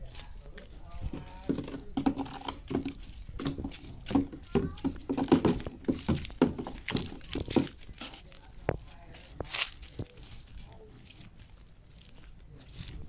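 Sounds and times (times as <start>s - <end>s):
child's footsteps on dirt: 0.0s - 13.0s.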